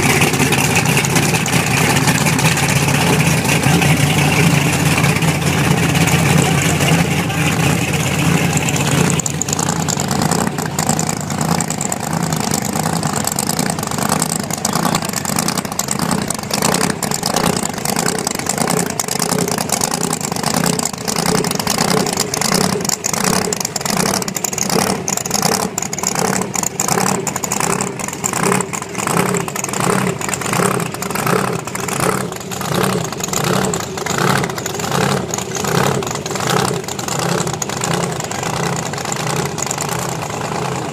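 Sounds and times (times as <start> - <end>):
engine pulsing idle: 0.0 - 40.9
race car engines revving: 0.0 - 40.9.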